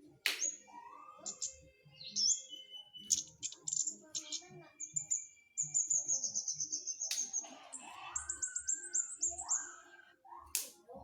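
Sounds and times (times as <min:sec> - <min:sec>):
bird singing high notes: 0:00.4 - 0:10.2.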